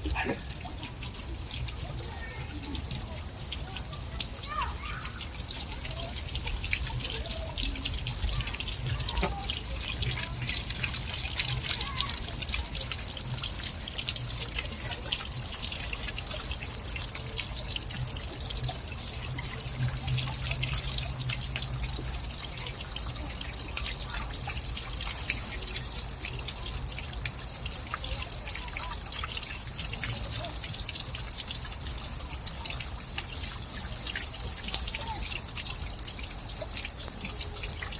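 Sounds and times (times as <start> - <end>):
water wheel trickling and splashing: 0.0 - 37.9.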